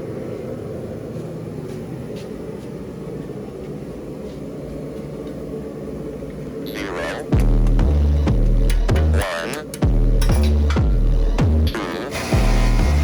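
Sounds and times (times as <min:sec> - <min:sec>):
constant hum: 0:00.0 - 0:13.0
low mechanical rumble: 0:00.0 - 0:13.0.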